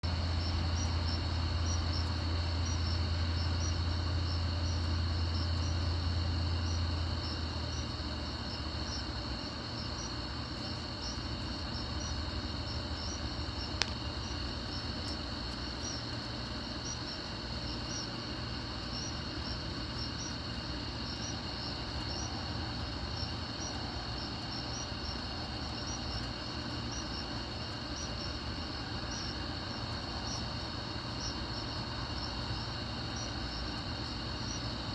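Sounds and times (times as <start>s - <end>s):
night insects trilling: 0.0s - 34.9s.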